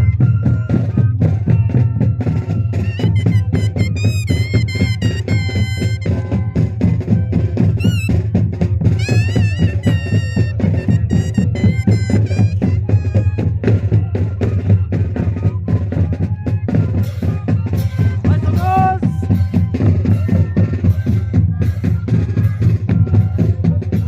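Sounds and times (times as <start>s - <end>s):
cane flutes playing: 0.0s - 24.0s
steady drumbeats: 0.0s - 24.0s.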